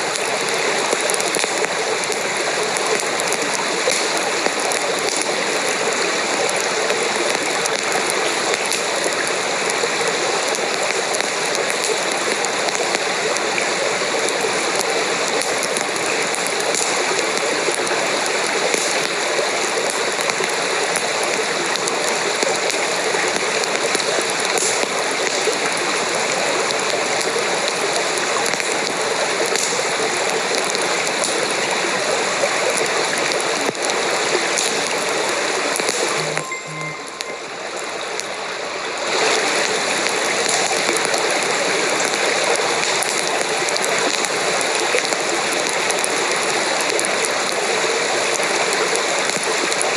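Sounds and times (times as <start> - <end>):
rushing water: 0.0 - 49.9.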